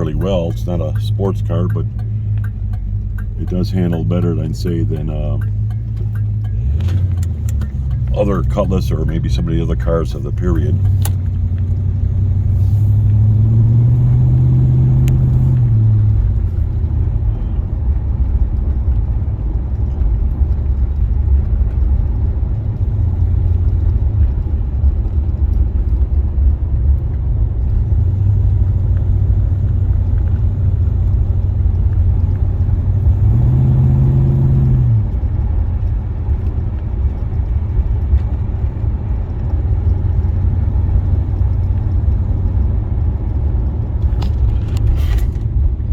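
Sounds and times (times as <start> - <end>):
car engine rumble: 0.0 - 45.9.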